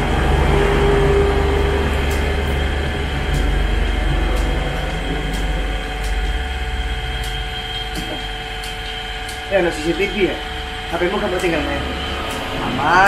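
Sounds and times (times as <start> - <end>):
faint steady hum: 0.0 - 13.0
road traffic rumble: 0.0 - 13.0.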